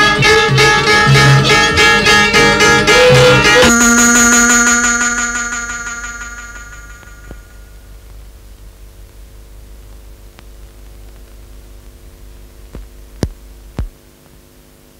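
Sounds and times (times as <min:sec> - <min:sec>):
film soundtrack hiss and hum: 0:00.0 - 0:14.9.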